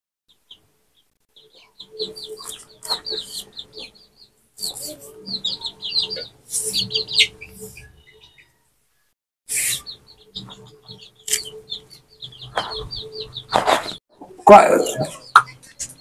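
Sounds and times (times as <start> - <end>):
chicks peeping: 0.3 - 16.0.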